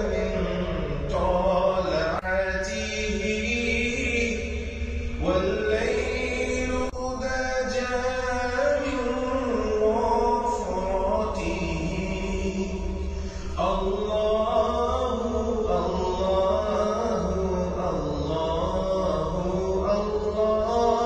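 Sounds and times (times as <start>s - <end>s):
steady low drone: 0.0s - 21.0s
voice chanting long sliding notes: 0.0s - 21.0s.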